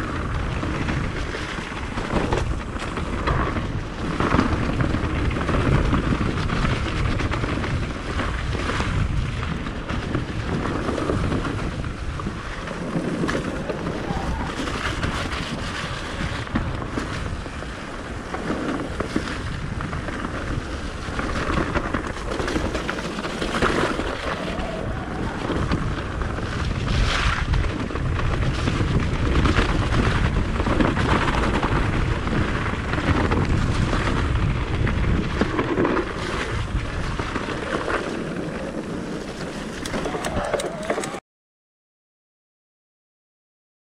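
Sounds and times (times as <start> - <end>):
bike rattling and knocking: 0.0 - 41.2
tyres rumbling over dirt trail: 0.0 - 41.2
wind buffeting microphone: 0.0 - 41.2.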